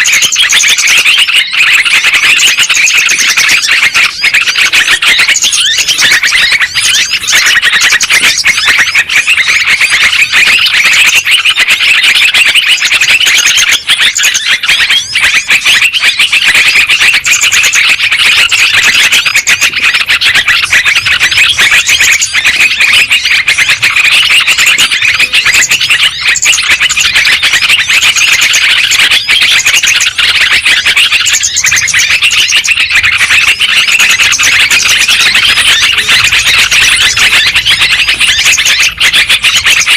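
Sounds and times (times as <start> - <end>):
bulbuls chattering and calling: 0.0 - 39.9.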